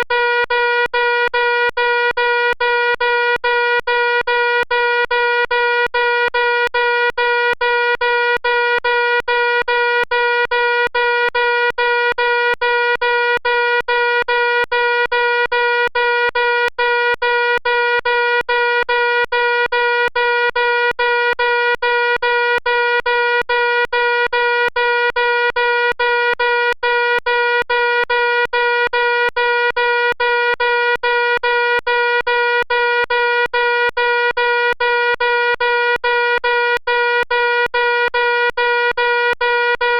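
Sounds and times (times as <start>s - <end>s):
pulsing electronic fire alarm: 0.2s - 39.9s.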